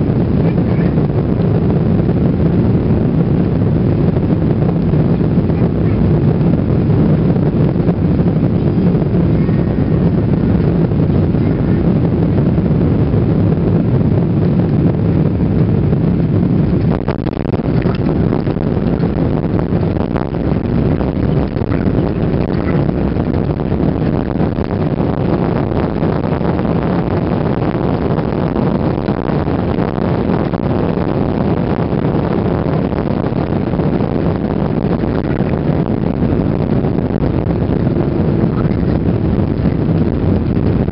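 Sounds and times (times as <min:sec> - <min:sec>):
airflow and jet engine rush: 0:00.0 - 0:40.9
wheels rumbling on runway: 0:00.0 - 0:40.9.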